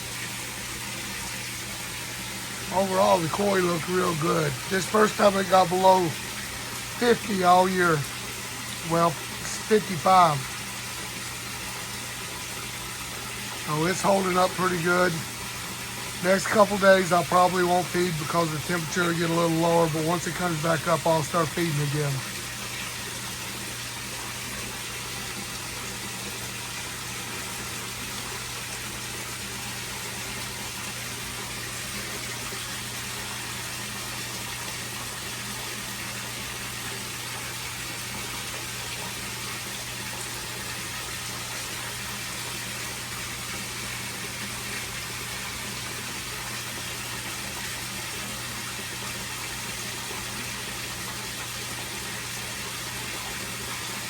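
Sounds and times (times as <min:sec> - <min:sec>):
pond water rushing: 0:00.0 - 0:54.0.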